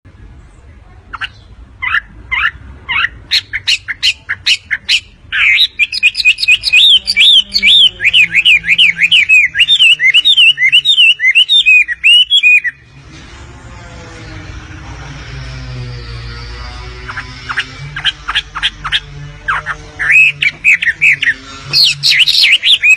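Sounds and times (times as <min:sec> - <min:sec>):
songbird singing: 0:00.1 - 0:13.0, 0:16.3 - 0:22.9.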